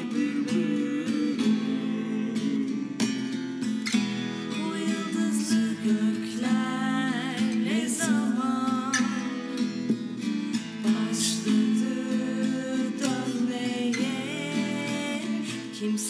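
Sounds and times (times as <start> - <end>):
woman singing: 0.0 - 3.4, 4.4 - 16.0
strummed acoustic guitar: 0.0 - 16.0.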